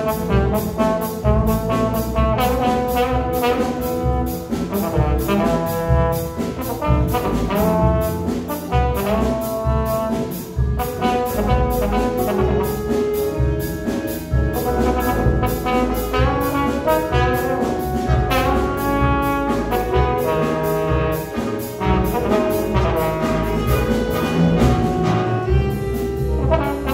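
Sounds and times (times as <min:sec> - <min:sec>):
cymbals keeping a beat: 0:00.0 - 0:26.9
jazz big band playing: 0:00.0 - 0:26.9
trombone solo: 0:00.0 - 0:26.9.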